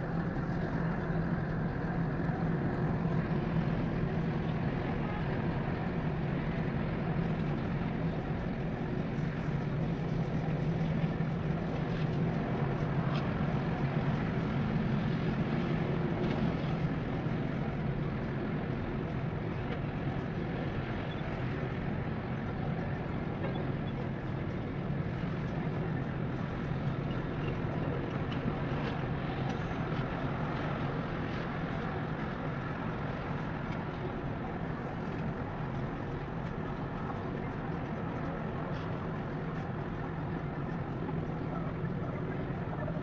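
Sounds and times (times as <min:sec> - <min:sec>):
outdoor background rumble: 0:00.0 - 0:43.0.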